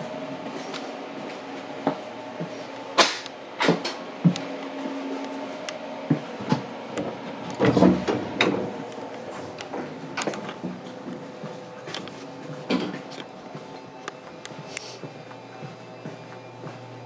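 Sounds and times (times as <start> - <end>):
footsteps and knocks: 0.0 - 17.0
train equipment hum: 0.0 - 17.0.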